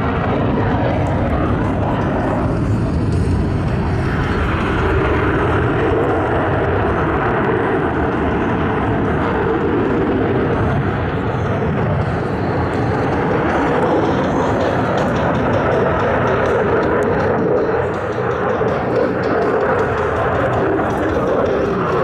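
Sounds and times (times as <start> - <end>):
fighter jet engine roar: 0.0 - 22.0.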